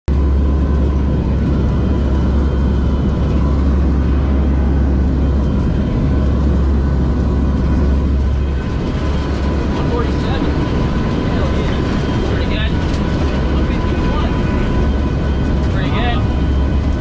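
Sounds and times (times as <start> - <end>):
aircraft engines droning: 0.1 - 17.0
faint steady whine: 0.1 - 17.0.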